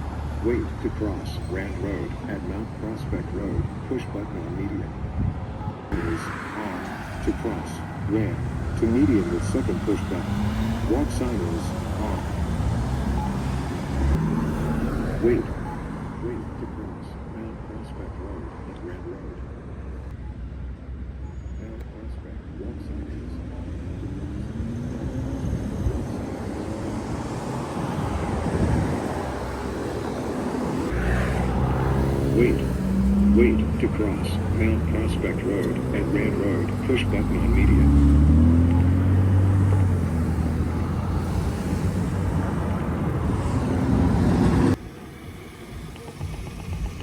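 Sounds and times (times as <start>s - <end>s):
road traffic passing: 0.0s - 47.0s.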